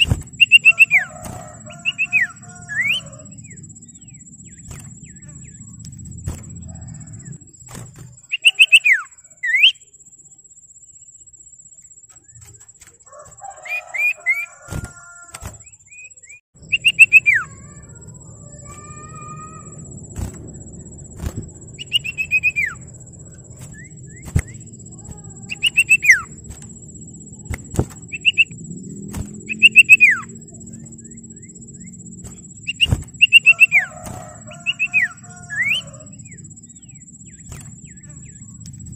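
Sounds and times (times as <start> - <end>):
bird warbling low notes: 0.0 - 9.7, 12.2 - 38.9.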